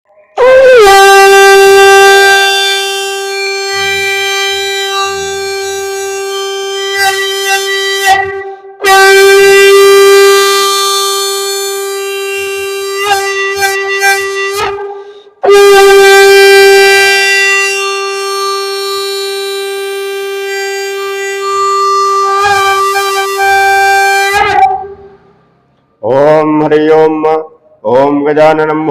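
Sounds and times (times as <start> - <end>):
conch shell blasts: 0.4 - 25.2.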